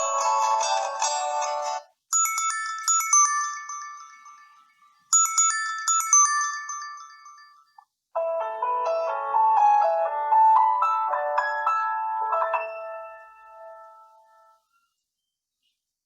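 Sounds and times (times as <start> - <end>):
phone ringtone melody: 0.0 - 14.6.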